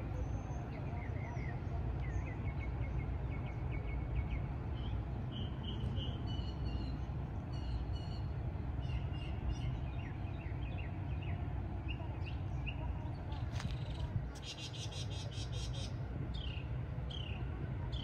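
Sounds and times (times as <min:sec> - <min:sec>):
songbirds chirping: 0:00.0 - 0:18.0
steady low rumble: 0:01.4 - 0:18.0.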